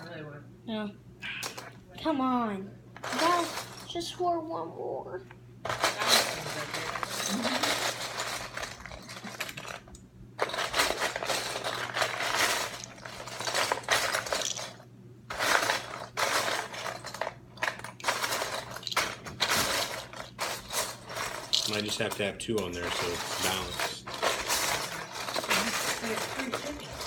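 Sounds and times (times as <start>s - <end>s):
plastic bricks clattering: 3.0s - 4.0s, 5.7s - 27.0s.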